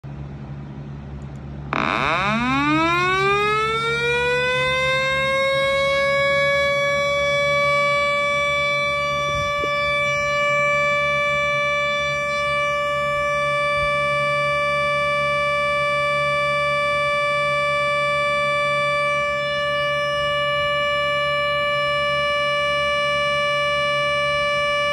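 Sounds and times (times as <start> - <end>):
warning siren through laptop speakers: 1.7 - 24.9.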